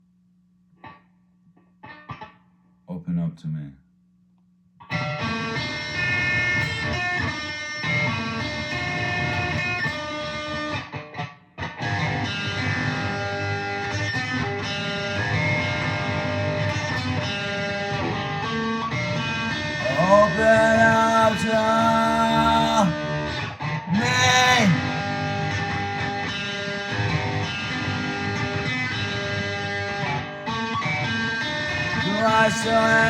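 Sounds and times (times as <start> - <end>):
fuzz-distorted electric guitar: 4.9 - 33.0.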